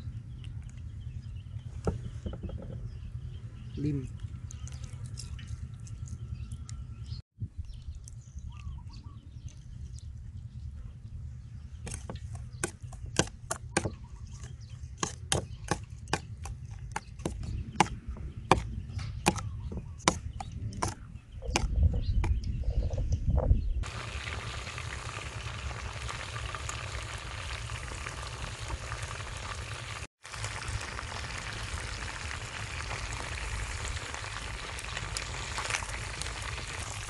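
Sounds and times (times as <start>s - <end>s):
low steady rumble: 0.0s - 37.0s.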